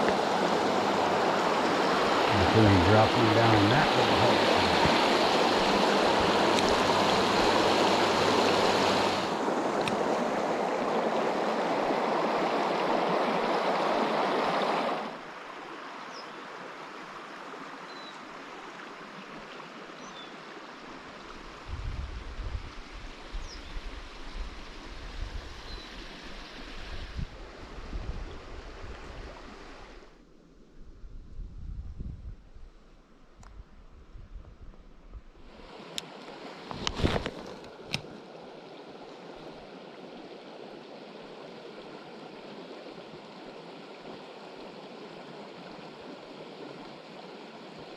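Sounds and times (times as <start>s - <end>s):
creek water flowing: 0.0s - 30.2s, 35.4s - 47.9s.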